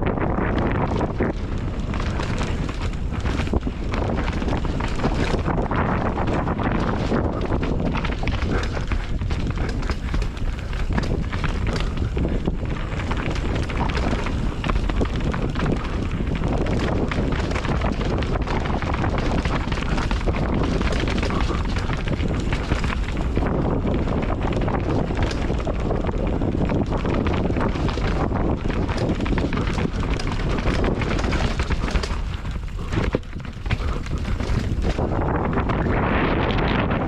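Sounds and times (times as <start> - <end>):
bike rattling and knocking: 0.0 - 36.9
wind on microphone: 0.0 - 37.0
tyres on dirt: 0.6 - 35.2.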